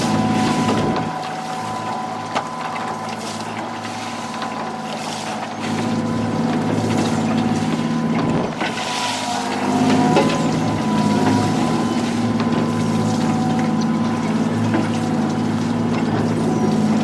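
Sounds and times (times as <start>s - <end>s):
boat engine running: 0.0s - 17.0s
water and wind noise: 0.0s - 17.0s.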